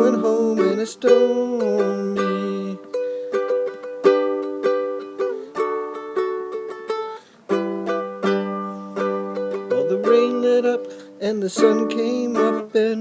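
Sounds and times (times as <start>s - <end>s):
acoustic string instrument strumming: 0.0s - 13.0s.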